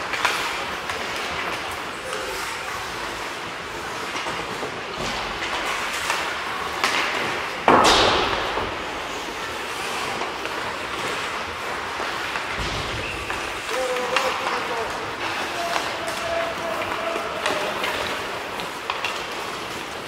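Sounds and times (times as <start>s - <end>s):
skates and sticks hissing on ice: 0.0s - 20.0s.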